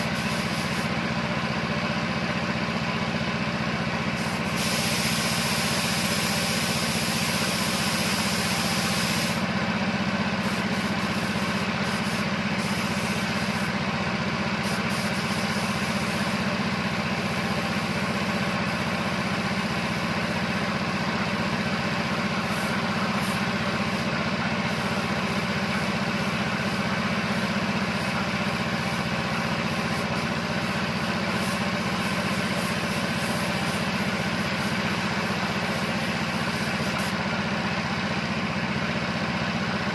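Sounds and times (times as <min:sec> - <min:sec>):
spray gun hissing: 0:00.0 - 0:01.0, 0:04.2 - 0:09.6, 0:10.3 - 0:37.4
air compressor running: 0:00.0 - 0:39.9.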